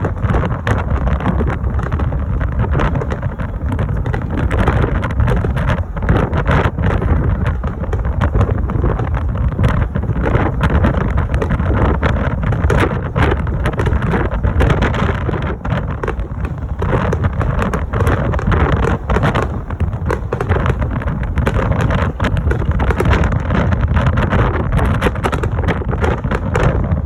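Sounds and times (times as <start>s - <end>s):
fireworks booming: 0.0s - 27.0s
fireworks crackling: 0.0s - 27.0s.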